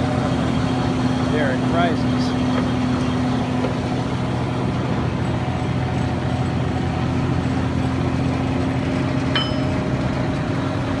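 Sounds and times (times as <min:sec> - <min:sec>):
truck engine idling fast: 0:00.0 - 0:11.0.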